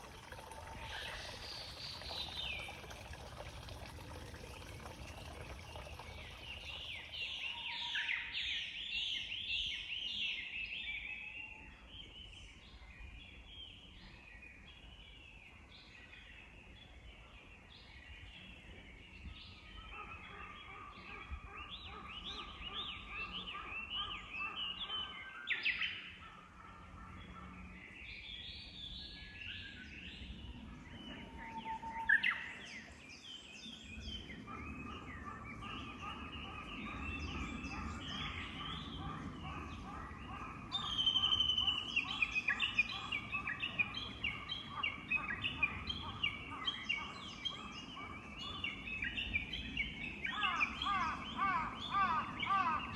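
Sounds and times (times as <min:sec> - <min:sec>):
songbirds chirping and trilling: 0:00.0 - 0:52.9.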